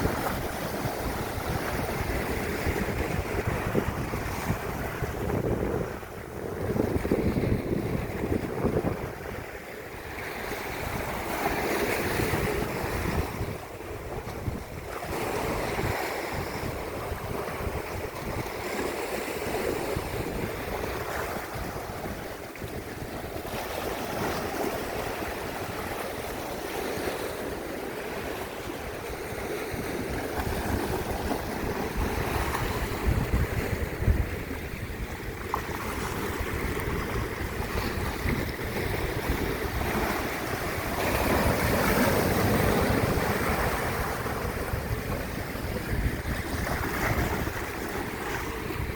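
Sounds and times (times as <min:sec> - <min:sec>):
sea waves washing in: 0:00.0 - 0:48.9
wind on microphone: 0:00.0 - 0:48.9.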